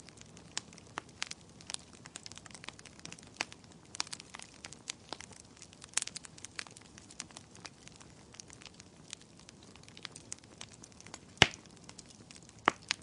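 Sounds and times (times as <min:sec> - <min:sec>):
faint steady hiss: 0:00.0 - 0:13.0
wood fire crackling: 0:00.0 - 0:13.0.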